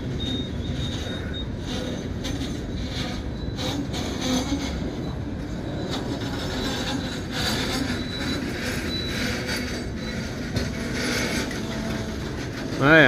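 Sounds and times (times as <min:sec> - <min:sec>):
freight train rumbling past: 0:00.0 - 0:13.0
wheel and brake squeals: 0:00.0 - 0:13.0.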